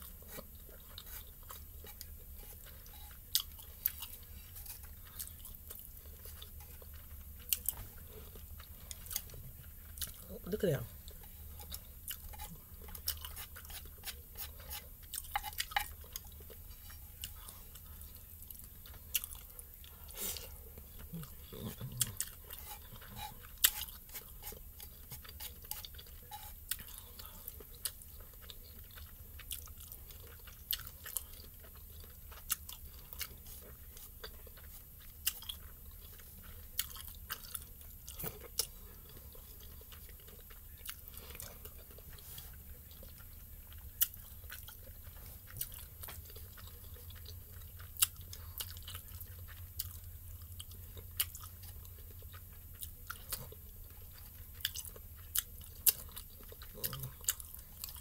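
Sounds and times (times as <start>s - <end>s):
low steady hum: 0.0s - 58.0s
person chewing noodles: 0.0s - 58.0s.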